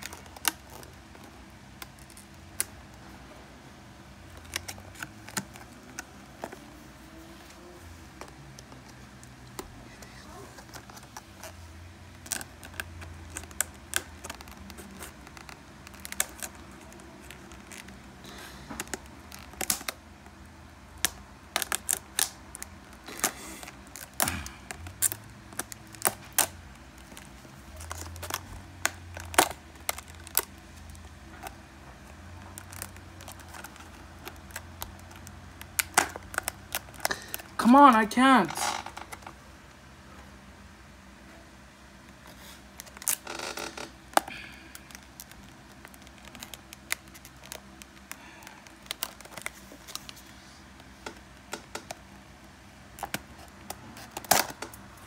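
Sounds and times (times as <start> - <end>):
plastic packaging crackling: 0.0 - 3.0, 4.1 - 7.4, 8.1 - 39.4, 42.0 - 55.0.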